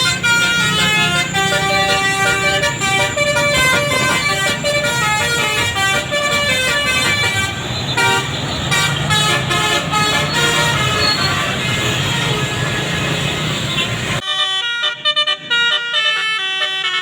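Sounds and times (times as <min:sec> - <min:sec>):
bus engine rumble: 0:00.0 - 0:14.2
musical air horn tune: 0:00.0 - 0:17.0.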